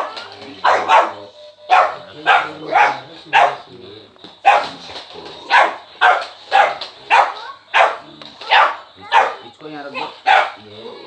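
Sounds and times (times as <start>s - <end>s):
puppy barking: 0.0s - 3.7s, 4.4s - 4.8s, 5.5s - 10.6s.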